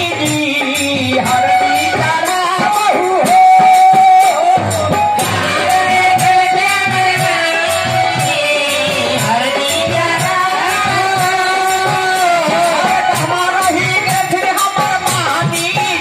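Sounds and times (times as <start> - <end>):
dholak drum beat: 0.0 - 16.0
jingling percussion: 0.0 - 16.0
man singing amplified: 0.0 - 16.0.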